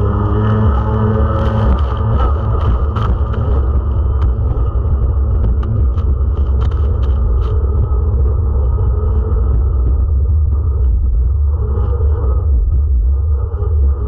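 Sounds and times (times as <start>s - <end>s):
jet ski engine rumbling: 0.0s - 14.0s.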